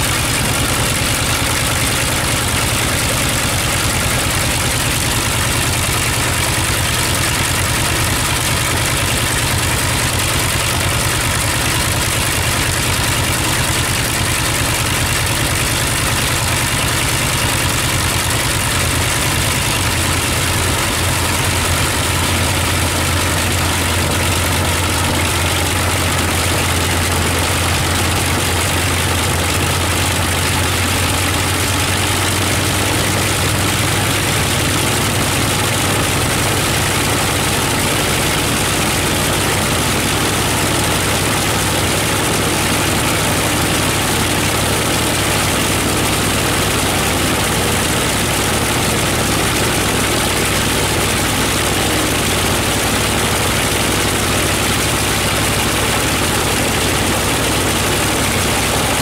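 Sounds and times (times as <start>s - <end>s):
propeller noise: 0.0s - 59.0s
radial engine running: 0.0s - 59.0s.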